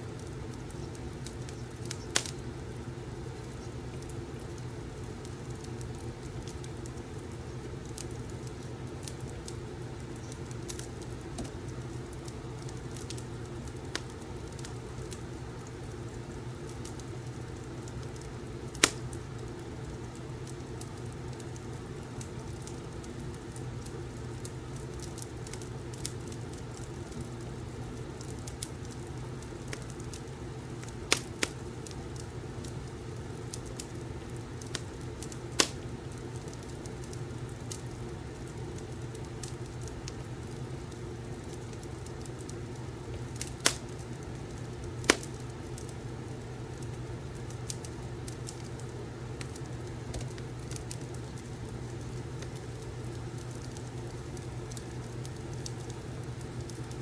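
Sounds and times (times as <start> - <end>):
fireplace crackling: 0.0 - 57.0
fire sharp pops: 0.1 - 2.5, 3.2 - 15.8, 16.4 - 27.3, 28.2 - 46.0, 46.7 - 57.0.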